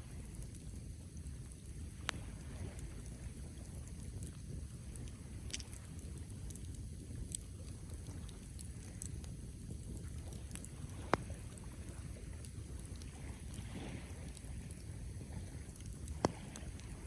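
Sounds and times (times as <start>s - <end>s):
campfire low rumble: 0.0s - 17.0s
faint fire crackles: 0.0s - 17.0s.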